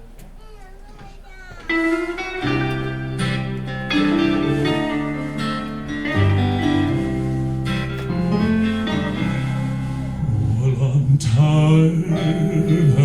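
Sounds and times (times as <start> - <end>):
guitar gospel instrumental: 1.6 - 13.0.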